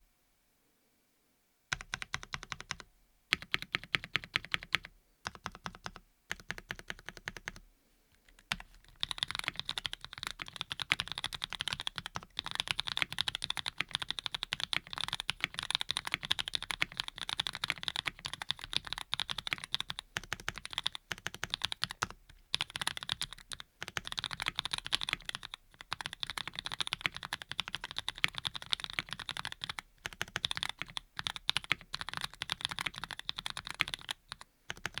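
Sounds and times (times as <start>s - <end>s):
mechanical keyboard typing: 1.7s - 7.6s, 8.3s - 35.0s.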